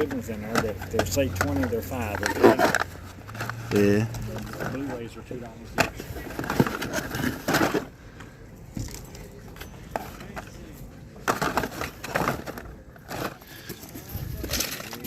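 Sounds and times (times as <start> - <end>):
toy cars clinking and rattling: 0.0 - 15.0.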